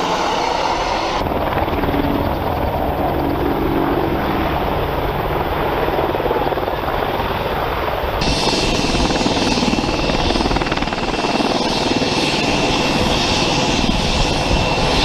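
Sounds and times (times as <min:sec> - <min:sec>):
helicopter rotor and turbine noise: 0:00.0 - 0:15.0
steady high whine: 0:00.0 - 0:15.0.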